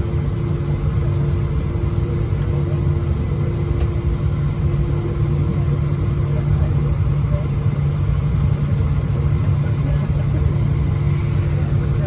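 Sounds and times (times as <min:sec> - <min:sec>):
airplane cabin drone: 0:00.0 - 0:12.0
constant hum tones: 0:00.0 - 0:12.0.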